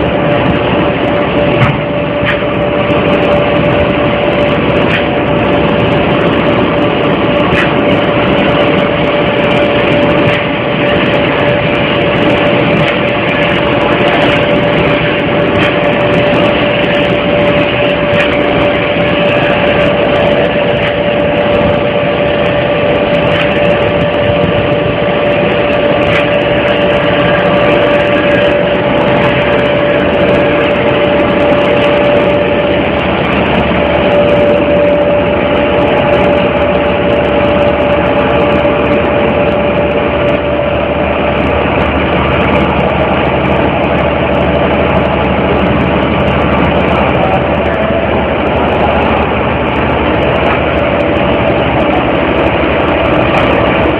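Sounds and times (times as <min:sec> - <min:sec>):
constant droning tone: 0:00.0 - 0:53.9.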